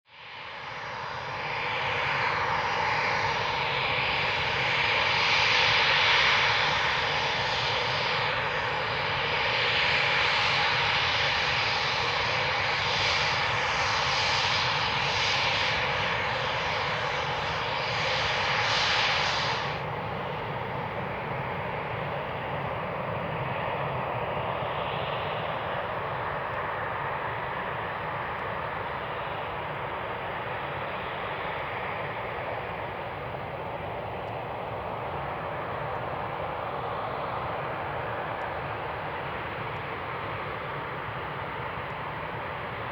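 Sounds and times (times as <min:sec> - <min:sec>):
jet engines whining: 0:01.0 - 0:42.9.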